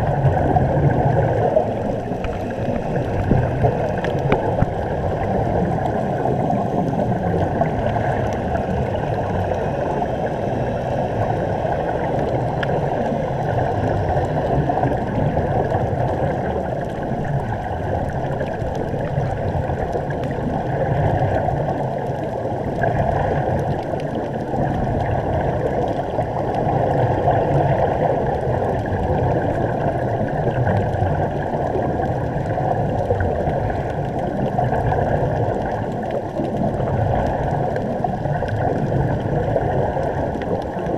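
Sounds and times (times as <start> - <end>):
air bubbling from diving helmets: 0.0 - 40.9
muffled underwater rushing: 0.0 - 40.9.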